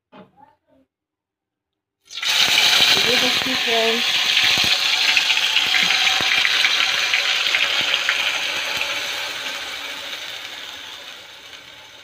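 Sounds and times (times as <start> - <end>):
paste sizzling in hot oil: 2.1 - 12.0.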